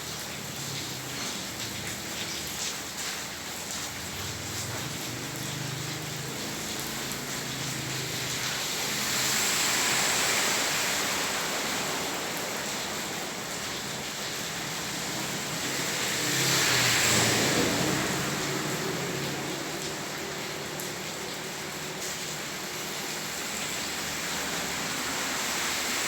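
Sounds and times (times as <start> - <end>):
heavy rain on flooded street: 0.0 - 26.0
tyres rushing through water: 0.0 - 26.0.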